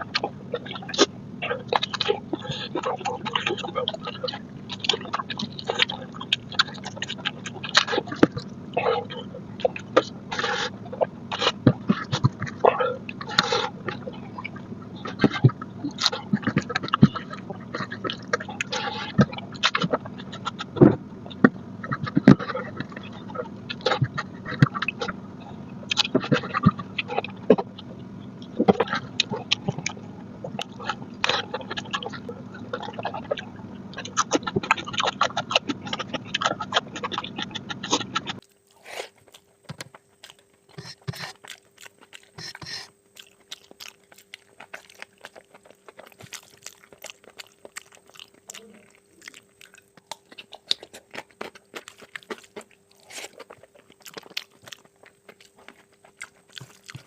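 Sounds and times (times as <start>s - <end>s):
chewing and lip-smacking: 0.0s - 57.0s
low steady hum: 0.0s - 57.0s.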